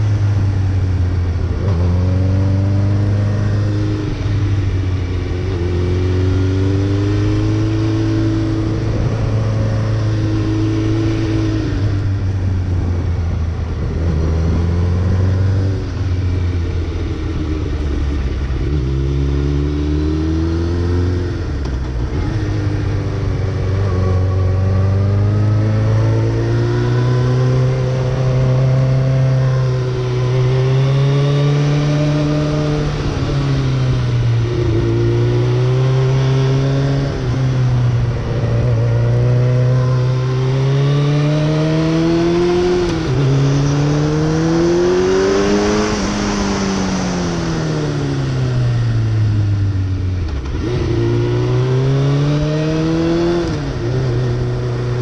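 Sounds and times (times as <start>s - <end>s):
motorcycle engine revving: 0.0s - 55.0s
wind noise: 0.0s - 55.0s.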